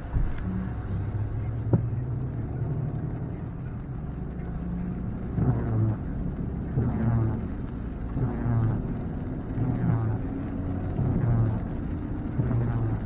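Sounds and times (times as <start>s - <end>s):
car engine and road hum: 0.0s - 13.0s
rain on windshield: 0.0s - 13.0s.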